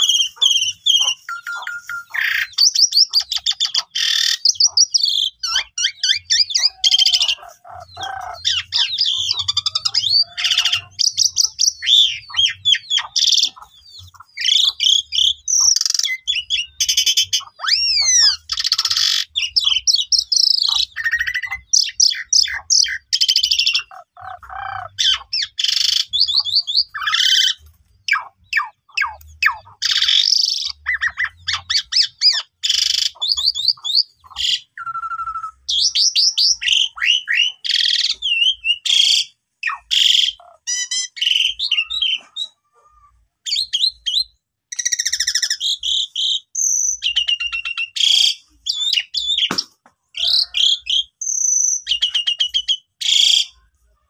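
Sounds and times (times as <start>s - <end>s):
starling singing whistles and chatter: 0.0s - 53.9s.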